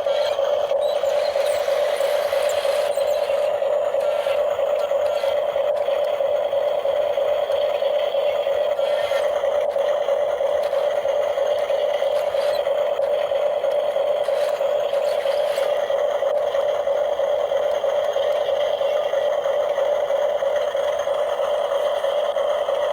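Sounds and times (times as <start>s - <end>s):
small electric motor whining: 0.0s - 22.9s.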